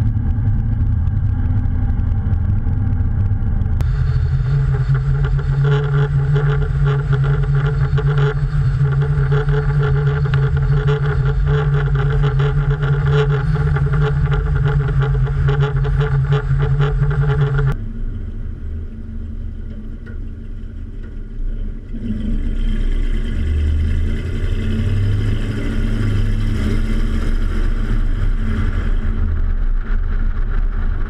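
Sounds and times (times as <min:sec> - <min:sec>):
road noise: 0:00.0 - 0:31.0
truck engine drone: 0:00.0 - 0:31.0.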